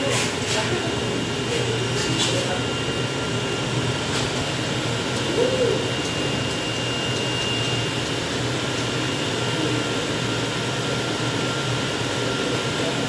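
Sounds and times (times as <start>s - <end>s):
cutting plotter humming and whirring: 0.0s - 13.0s.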